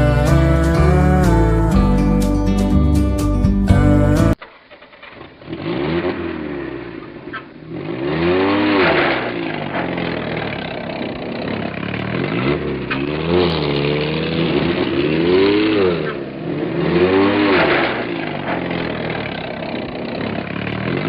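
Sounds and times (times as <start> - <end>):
truck engine revving: 0.0 - 4.4, 5.1 - 21.0.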